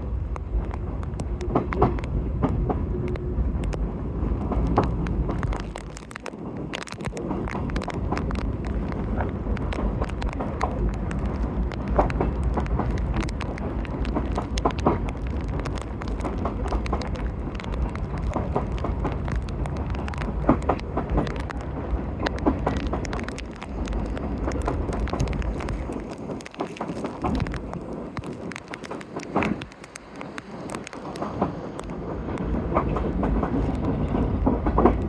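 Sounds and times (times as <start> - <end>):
freight train rumbling past: 0.0 - 35.0
wind buffeting microphone: 0.0 - 35.0.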